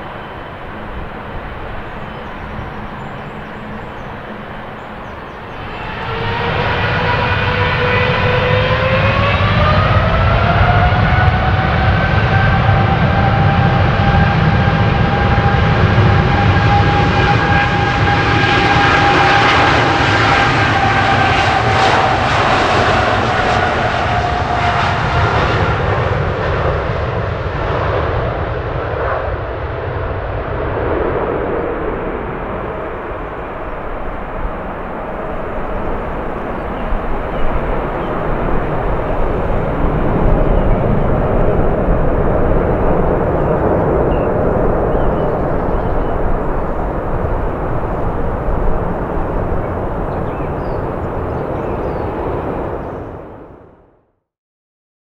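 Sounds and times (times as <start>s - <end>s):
deep rumble: 0.0s - 53.4s
jet engines spooling up: 0.0s - 53.5s.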